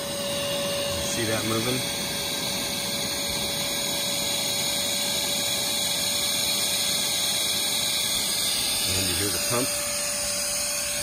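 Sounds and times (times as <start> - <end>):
electric air pump humming: 0.0 - 11.0.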